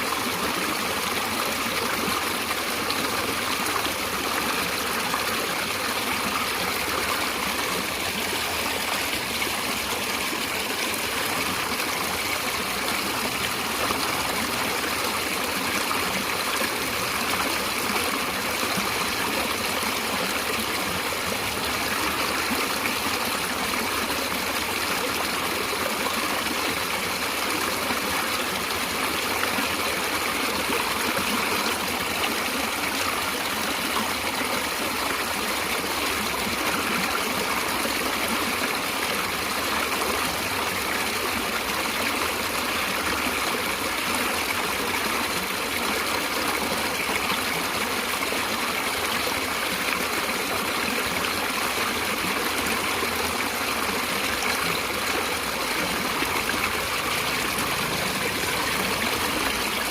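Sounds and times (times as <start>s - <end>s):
running water flowing: 0.0s - 59.9s.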